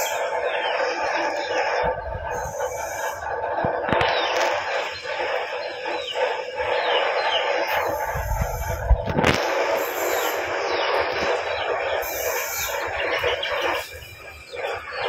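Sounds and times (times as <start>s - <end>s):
chickens clucking: 0.0s - 15.0s
small birds chirping: 0.0s - 15.0s.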